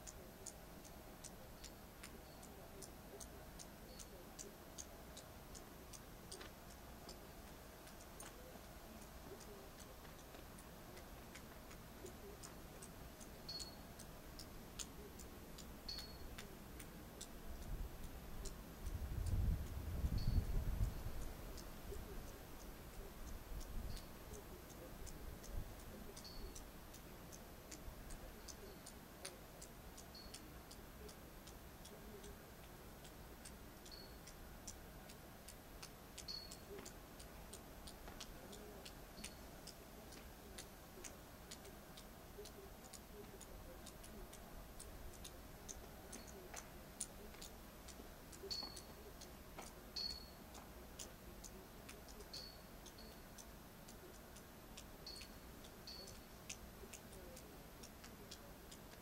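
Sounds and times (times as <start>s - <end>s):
faint hiss: 0.0s - 59.0s
water dripping from icicles: 0.0s - 59.0s.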